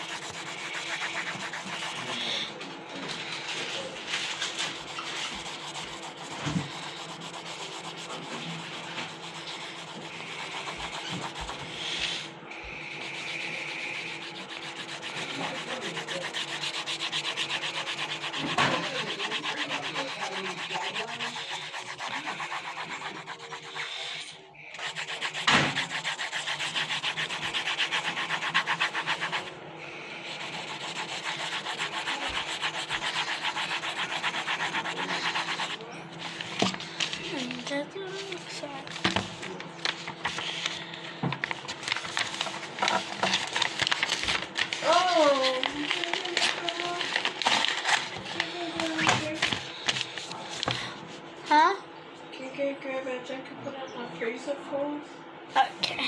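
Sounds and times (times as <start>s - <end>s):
pencil scribbling on paper: 0.0s - 39.2s, 41.8s - 50.8s.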